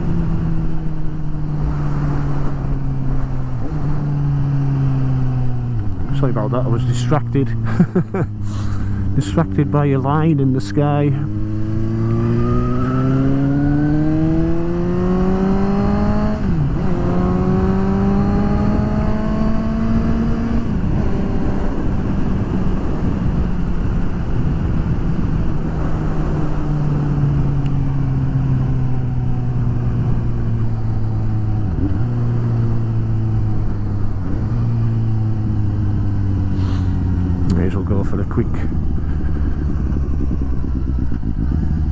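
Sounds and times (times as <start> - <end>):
motorcycle engine revving: 0.0 - 41.9
wind noise: 0.0 - 41.9.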